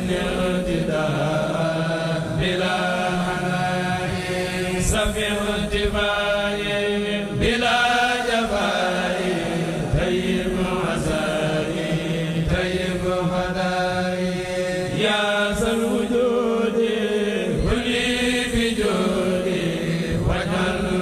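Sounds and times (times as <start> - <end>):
group of men chanting: 0.0 - 21.0.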